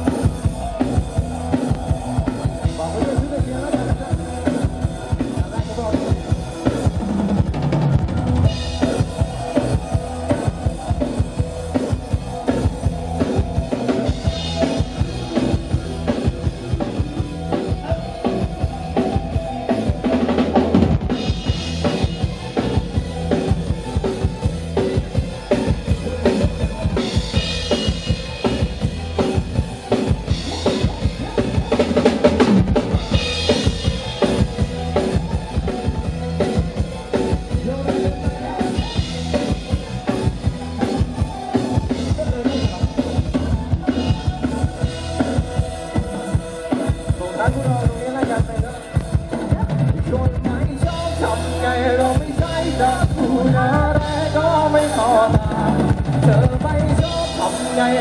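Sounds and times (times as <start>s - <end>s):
drum kit: 0.0s - 58.0s
live band playing through speakers: 0.0s - 58.0s.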